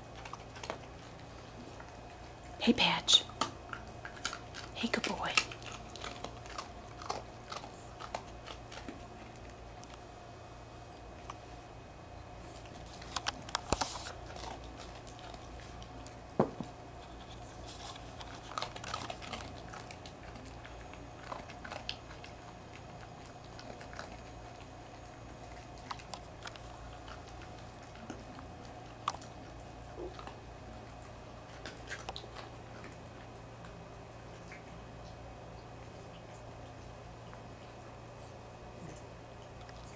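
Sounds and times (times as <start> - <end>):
dog chewing crunchy cookie: 0.0 - 39.9
steady low hum: 0.0 - 39.9.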